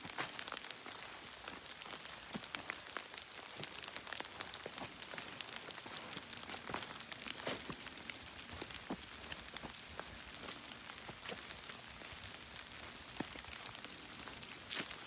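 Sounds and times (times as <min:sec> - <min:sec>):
raindrops ticking close by: 0:00.0 - 0:15.0
steady rain: 0:00.0 - 0:15.0.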